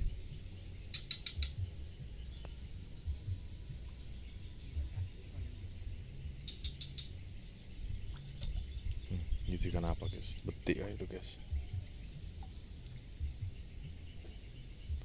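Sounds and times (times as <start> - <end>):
dull low thumps: 0.0 - 15.0
insects droning: 0.0 - 15.0.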